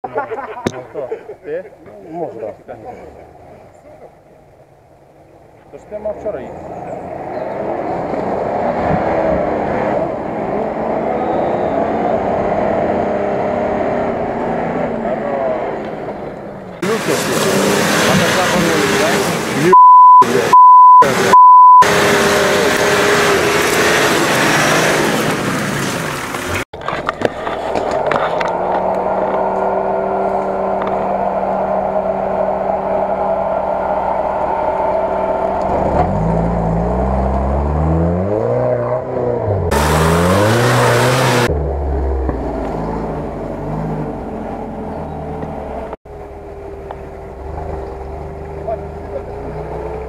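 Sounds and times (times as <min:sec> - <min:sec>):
off-road engine under load: 0:00.4 - 0:50.0.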